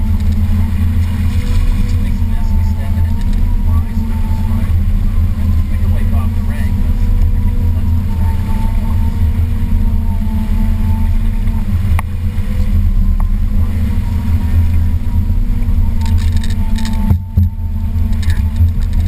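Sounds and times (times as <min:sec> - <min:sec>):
faint steady hum: 0:00.0 - 0:19.0
motorboat engine rumbling: 0:00.0 - 0:19.0.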